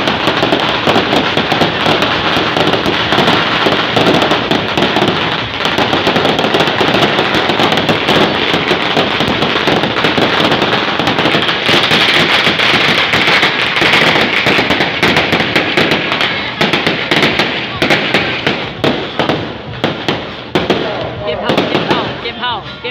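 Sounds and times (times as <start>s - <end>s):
fireworks crackling: 0.0s - 22.9s.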